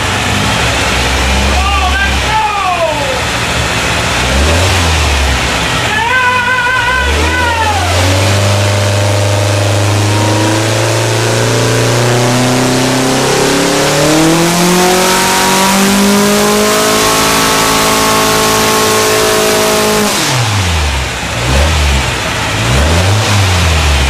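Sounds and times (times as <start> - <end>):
car engine running on dyno: 0.0 - 24.0.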